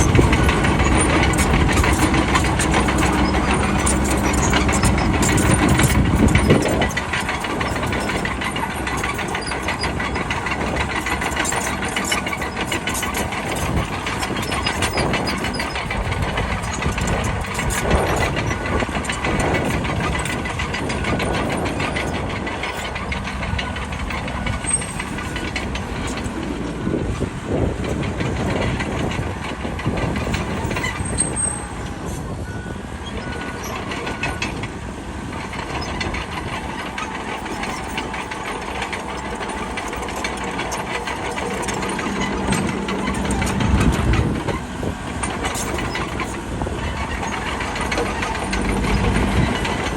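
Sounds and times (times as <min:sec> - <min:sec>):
bulldozer diesel engine running: 0:00.0 - 0:49.9
clattering knocks and rattles: 0:00.0 - 0:49.9.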